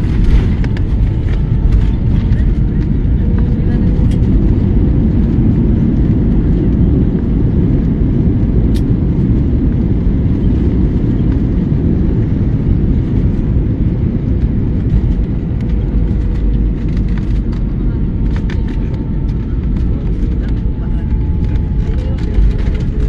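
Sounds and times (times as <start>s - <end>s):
jet engines and rushing air: 0.0s - 23.0s.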